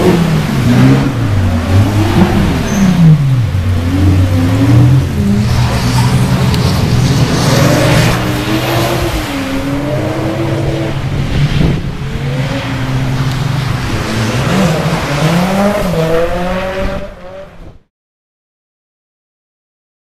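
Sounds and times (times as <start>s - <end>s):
car engine revving: 0.0s - 17.6s
rush of tyre noise: 0.0s - 17.9s.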